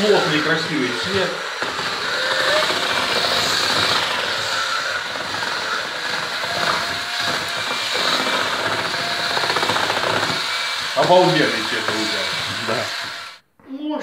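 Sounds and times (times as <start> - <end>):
electric drill mixing paint: 0.0 - 13.5.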